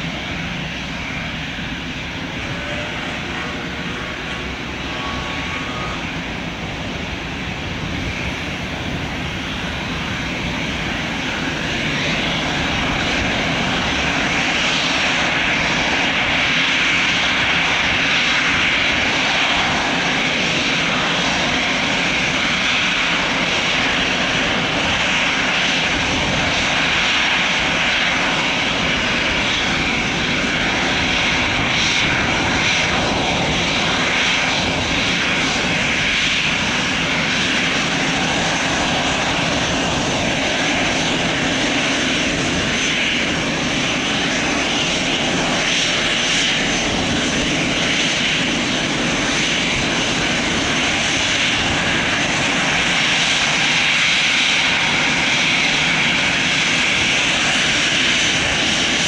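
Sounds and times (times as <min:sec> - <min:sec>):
jet engines taxiing: 0:00.0 - 0:59.0.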